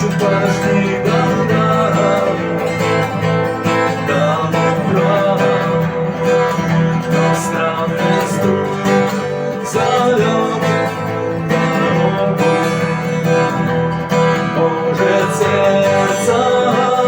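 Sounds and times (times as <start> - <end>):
guitar strumming: 0.0 - 17.0.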